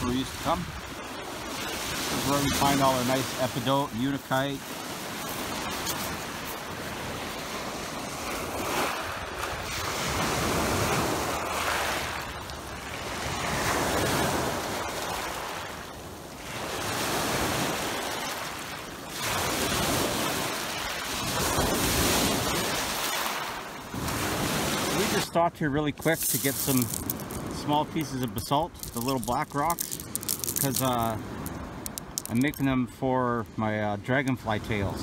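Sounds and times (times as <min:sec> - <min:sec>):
surf washing over cobble beach: 0:00.0 - 0:35.0.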